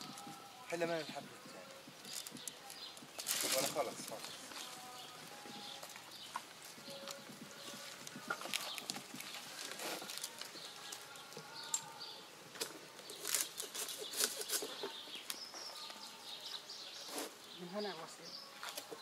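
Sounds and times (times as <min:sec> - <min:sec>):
rustles: 0:00.0 - 0:18.0.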